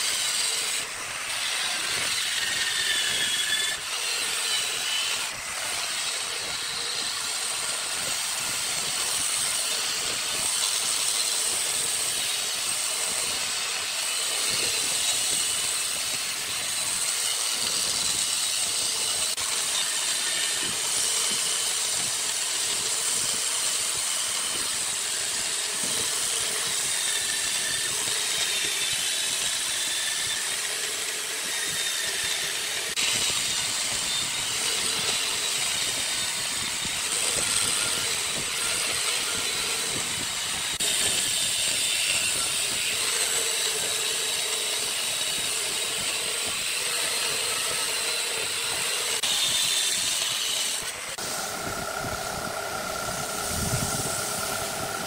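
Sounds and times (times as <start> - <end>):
gouge cutting spinning wood: 0.0 - 55.0
wood lathe whine: 0.0 - 55.0.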